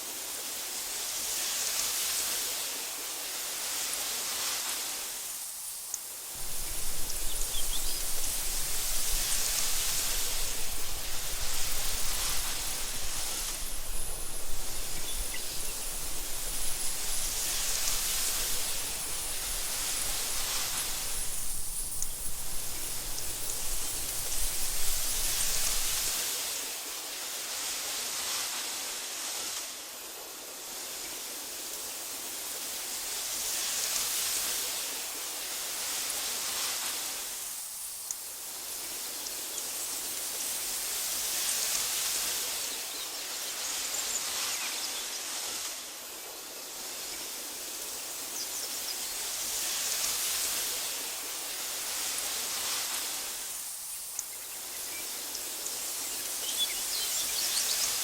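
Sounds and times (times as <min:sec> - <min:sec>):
wind rustling grass: 0:00.0 - 0:58.0.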